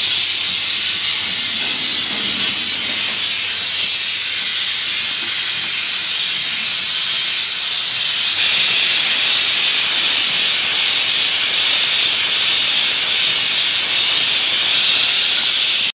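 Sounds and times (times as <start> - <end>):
bottle filling machine hissing: 0.0 - 15.9.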